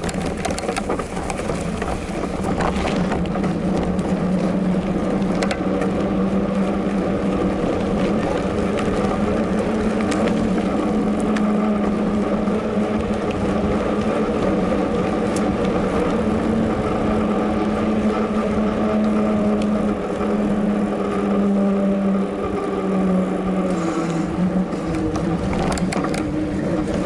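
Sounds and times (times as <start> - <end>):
bike clicks and rattles: 0.0 - 27.0
constant low hum: 0.0 - 27.0
tyres rolling on pavement: 0.0 - 27.0.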